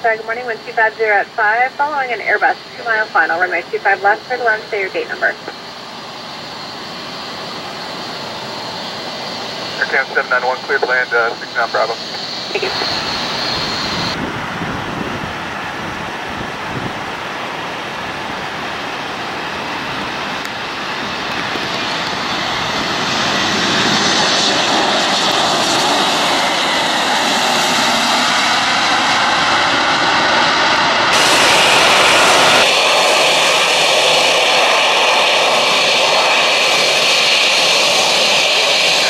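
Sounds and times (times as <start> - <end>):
jet engine whine: 0.0 - 39.0
jet engines rushing: 0.0 - 39.0.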